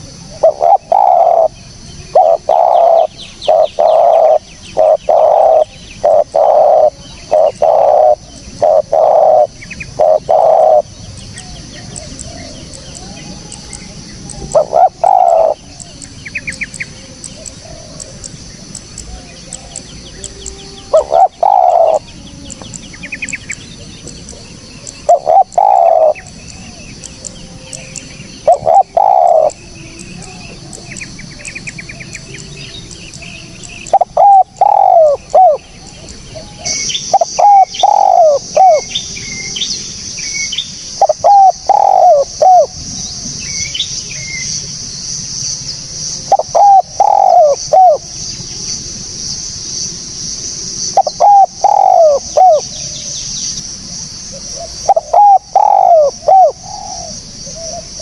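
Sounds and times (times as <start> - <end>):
dove cooing: 0.0 - 39.8, 40.9 - 43.3, 46.2 - 48.2, 50.9 - 53.2, 54.3 - 58.0
small birds chirping: 0.0 - 58.0.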